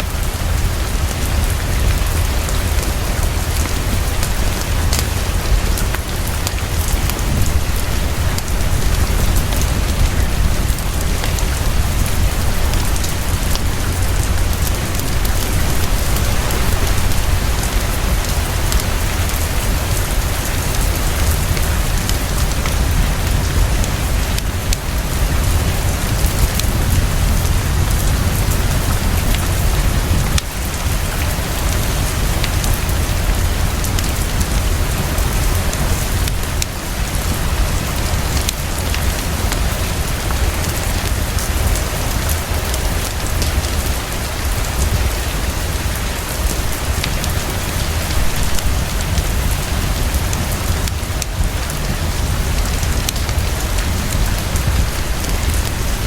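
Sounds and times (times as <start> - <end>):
heavy rainfall: 0.0 - 56.0.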